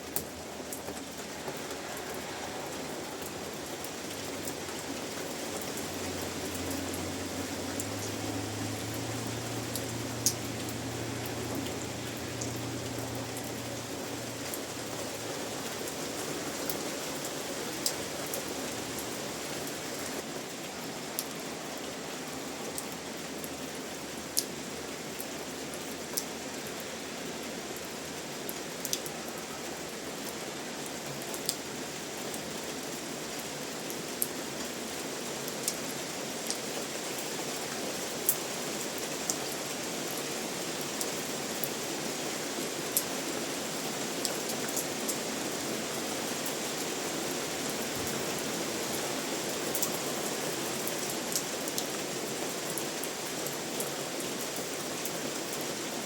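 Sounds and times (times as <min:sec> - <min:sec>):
close raindrops striking: 0:00.0 - 0:56.0
steady rain falling: 0:00.0 - 0:56.0.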